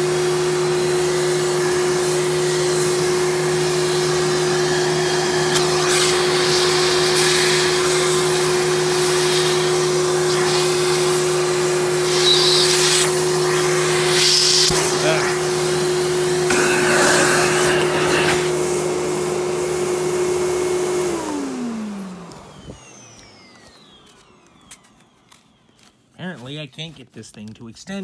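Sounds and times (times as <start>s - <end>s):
vacuum cleaner running: 0.0s - 26.6s.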